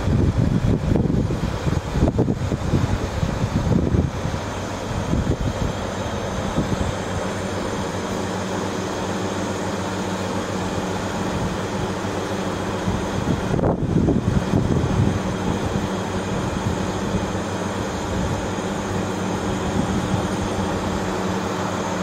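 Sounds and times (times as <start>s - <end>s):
fan rush: 0.0s - 22.0s
low steady hum: 0.0s - 22.0s.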